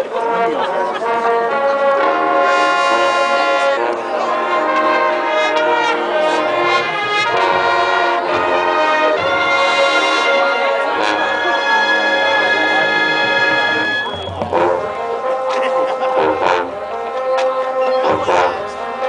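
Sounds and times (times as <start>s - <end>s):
brass band playing chords: 0.0s - 19.0s.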